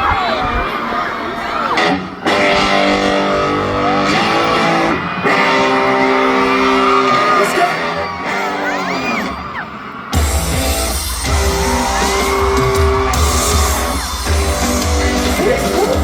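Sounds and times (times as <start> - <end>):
guitar chords music: 1.7 - 16.0.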